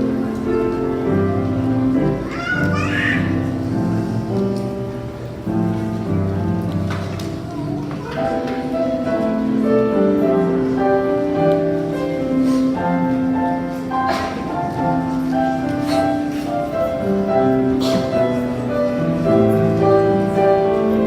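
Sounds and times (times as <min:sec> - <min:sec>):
room noises: 0:00.0 - 0:21.0
slow keyboard melody: 0:00.0 - 0:21.0.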